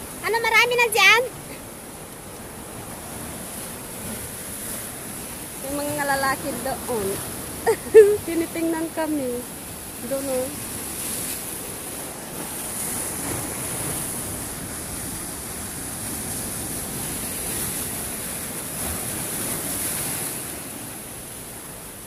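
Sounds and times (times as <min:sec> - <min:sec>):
sea surf breaking over rocks: 0:00.0 - 0:22.0.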